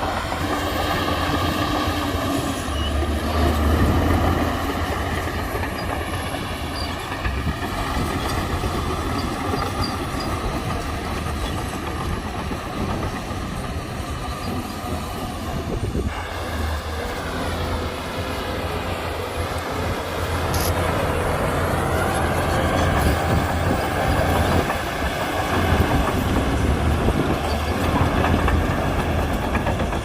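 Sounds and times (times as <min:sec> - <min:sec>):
bulldozer diesel engine under load: 0:00.0 - 0:30.0
steel tracks clattering: 0:00.0 - 0:30.0.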